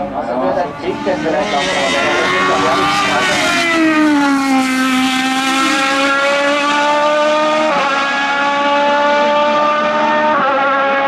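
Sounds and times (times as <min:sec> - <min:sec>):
race car engine running hard: 0:00.0 - 0:11.0.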